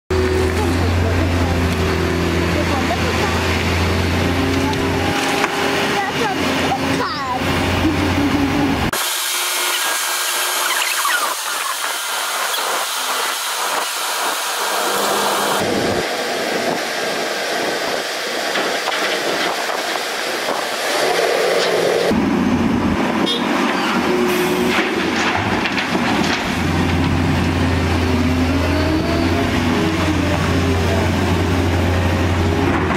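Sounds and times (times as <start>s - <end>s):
deep engine drone: 0.1s - 32.9s
diesel engines running: 0.1s - 32.9s
excavator digging and loading: 0.1s - 32.9s.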